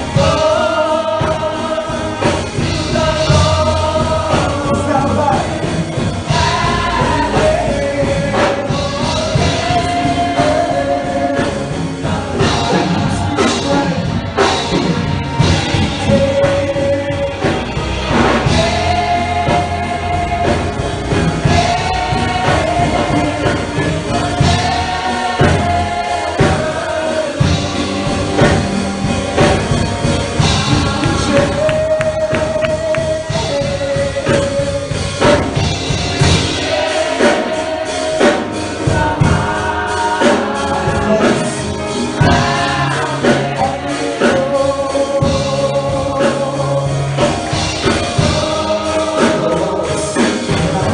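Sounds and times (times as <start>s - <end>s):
band with drums: 0.0s - 50.9s
choir singing held notes: 0.0s - 50.9s.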